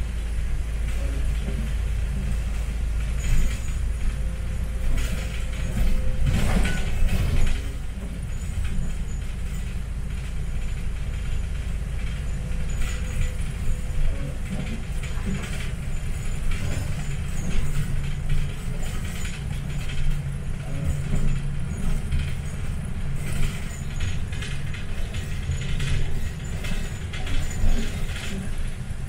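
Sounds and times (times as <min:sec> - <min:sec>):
bus drivetrain and road rumble: 0:00.0 - 0:29.0
bodywork rattling and knocking: 0:01.4 - 0:29.0.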